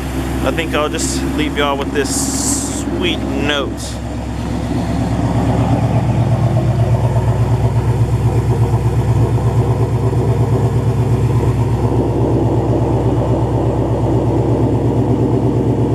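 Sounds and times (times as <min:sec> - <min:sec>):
car engine idling: 0:00.0 - 0:15.9.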